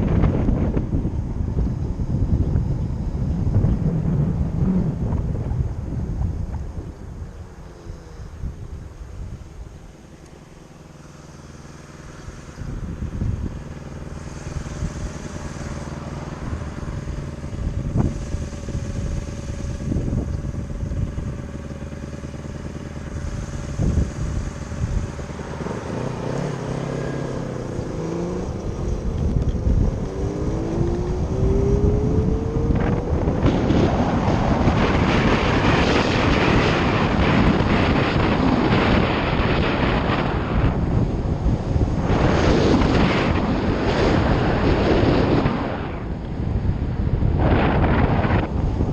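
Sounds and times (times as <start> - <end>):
electric motorcycle motor whine: 0.0 - 48.9
wind rushing over microphone: 0.0 - 48.9.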